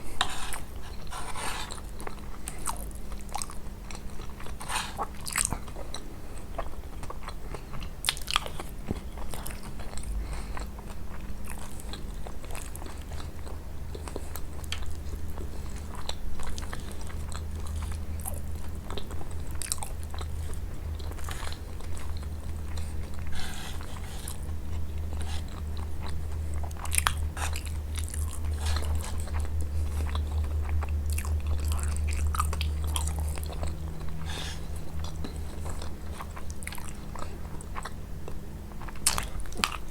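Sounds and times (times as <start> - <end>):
chewing crisp pastry: 0.0 - 39.9
steady low hum: 0.0 - 39.9.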